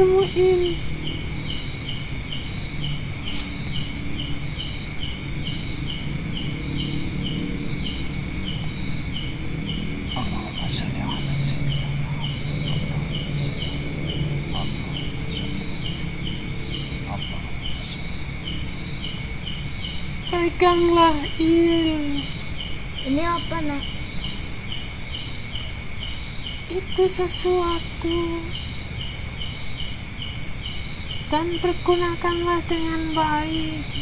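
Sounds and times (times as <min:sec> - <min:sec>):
high-pitched insect drone: 0:00.0 - 0:34.0
insect chirping: 0:00.0 - 0:34.0.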